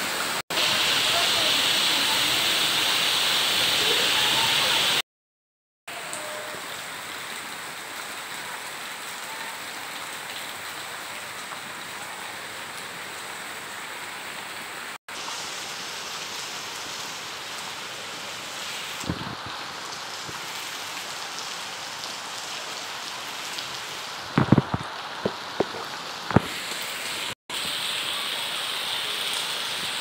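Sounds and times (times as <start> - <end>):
rain falling on leaves: 0.0 - 5.0, 5.9 - 30.0.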